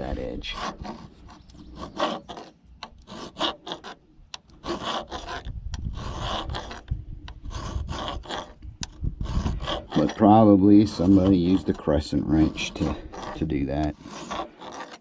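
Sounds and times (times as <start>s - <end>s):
file rasping on steel: 0.0s - 15.0s.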